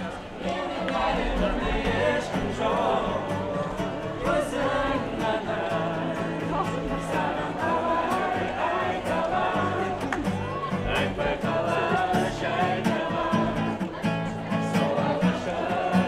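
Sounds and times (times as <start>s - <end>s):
crowd murmur: 0.0s - 16.0s
people singing: 0.0s - 16.0s
acoustic guitar strumming: 1.0s - 16.0s.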